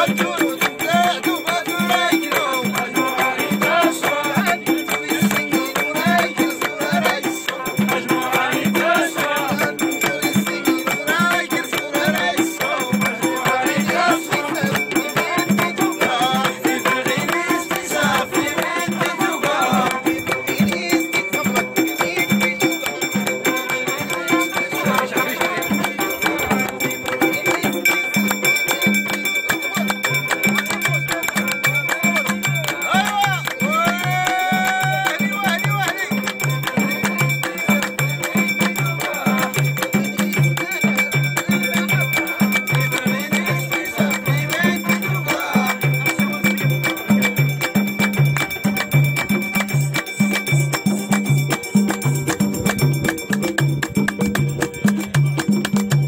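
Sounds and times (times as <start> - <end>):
frame drum beat: 0.0 - 56.0
man singing: 0.0 - 56.0.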